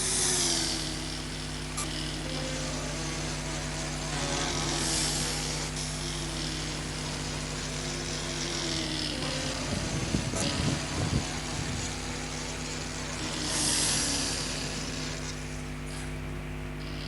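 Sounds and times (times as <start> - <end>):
hiss: 0.0 - 16.2
steady mechanical drone: 0.0 - 17.0.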